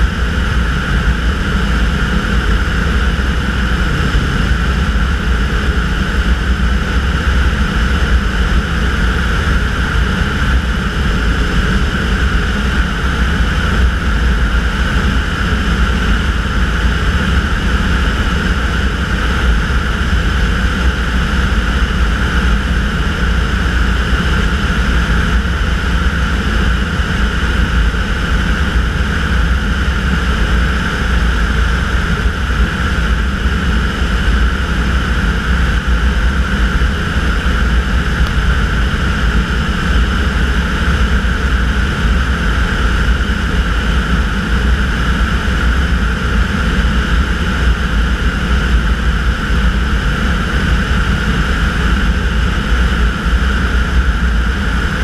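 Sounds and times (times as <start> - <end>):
aircraft engine and propeller: 0.0 - 55.0.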